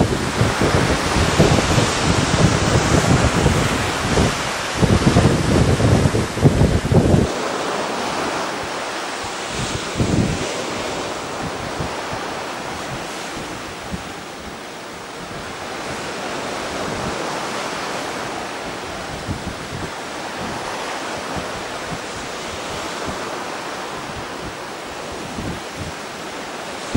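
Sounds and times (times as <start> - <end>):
ocean surf washing ashore: 0.0 - 26.9
wind buffeting microphone: 0.0 - 26.9.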